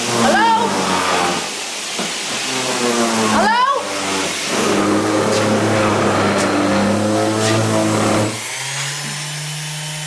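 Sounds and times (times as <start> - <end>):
rough cutting noise: 0.0 - 1.6, 2.3 - 10.0
power tool motor hum: 0.0 - 10.0.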